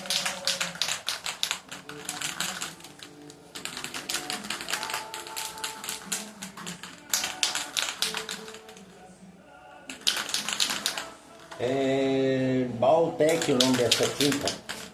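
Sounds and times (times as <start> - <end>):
faint background music: 0.0 - 14.9.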